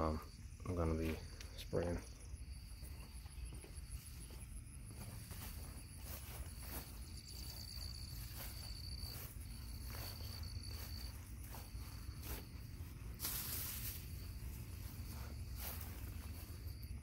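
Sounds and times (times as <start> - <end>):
high insect trill: 0.0 - 17.0
footsteps on grass: 0.9 - 17.0.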